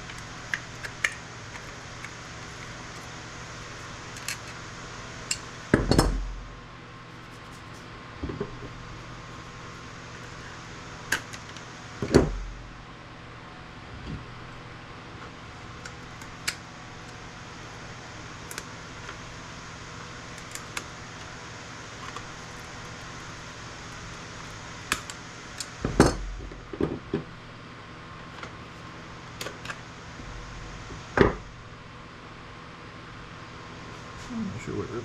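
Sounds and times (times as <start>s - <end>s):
steady fan hum: 0.0s - 35.0s.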